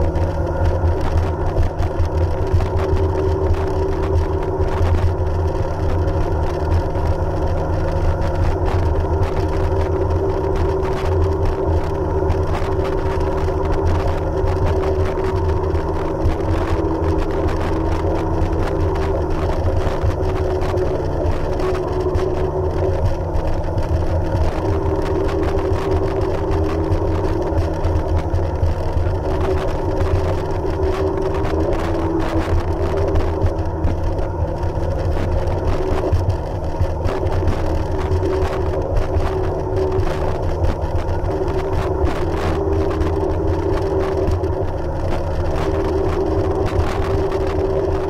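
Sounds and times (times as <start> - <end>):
jet ski engine droning: 0.0 - 48.0.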